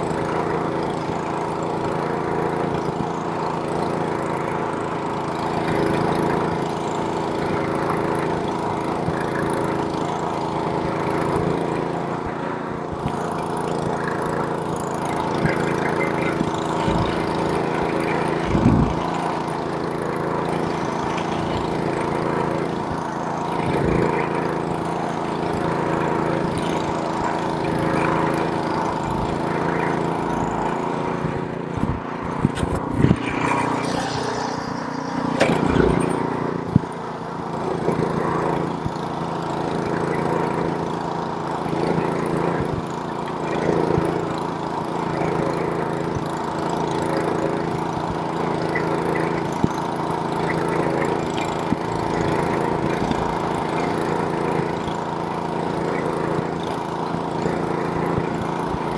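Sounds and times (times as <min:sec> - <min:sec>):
snowblower engine running: 0:00.0 - 0:58.9.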